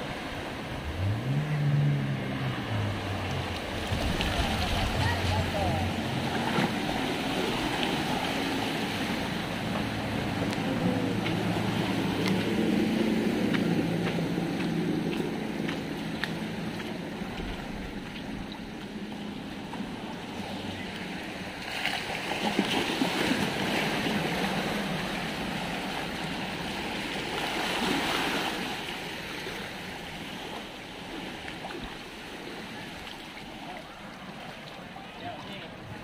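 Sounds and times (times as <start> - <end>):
floodwater sloshing around wheels: 0.0 - 36.0.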